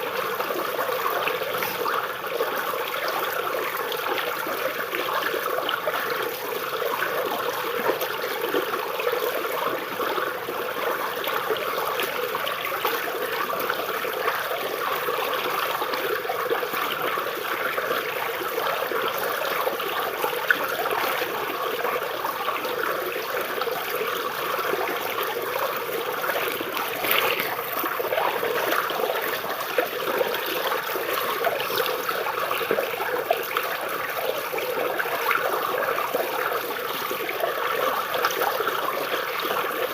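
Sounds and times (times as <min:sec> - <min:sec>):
shallow river water babbling: 0:00.0 - 0:39.9
small water splashes: 0:00.0 - 0:39.9.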